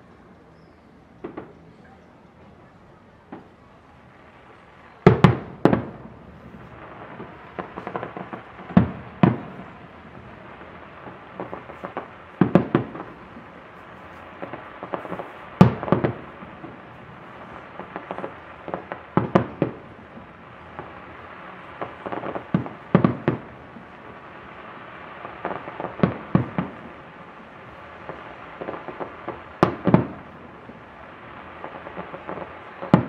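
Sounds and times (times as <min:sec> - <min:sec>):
fireworks crackling: 0:00.0 - 0:33.0
fireworks bangs: 0:01.2 - 0:01.8, 0:03.2 - 0:33.0.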